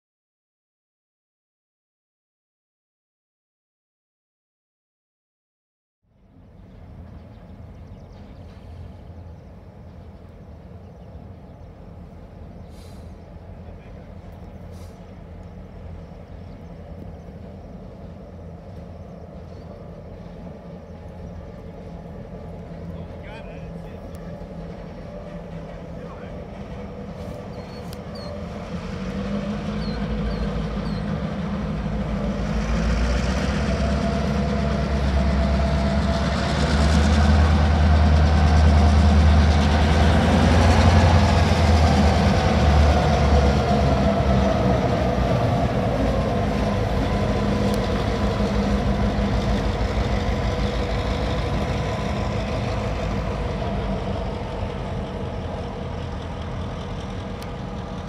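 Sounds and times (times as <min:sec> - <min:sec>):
diesel locomotive engine rumble: 0:06.1 - 0:58.0
train wheels rolling: 0:06.6 - 0:58.0.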